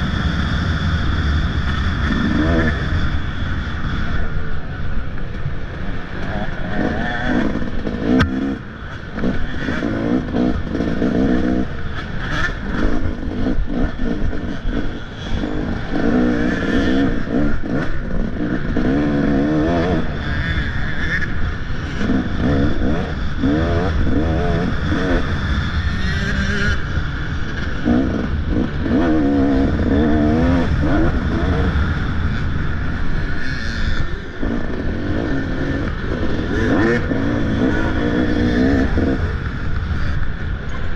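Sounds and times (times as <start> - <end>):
motocross bike engine revving: 0.0 - 4.8, 5.6 - 40.9.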